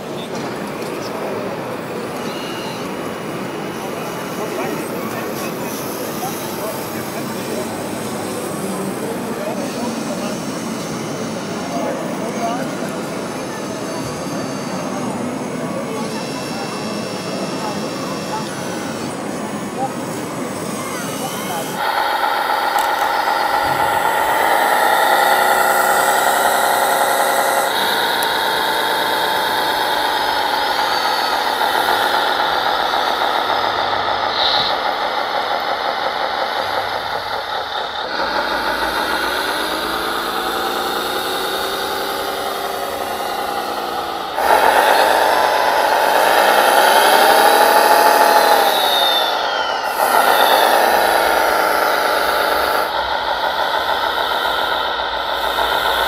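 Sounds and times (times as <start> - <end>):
toy wheel loader motor whine: 0.0 - 56.0.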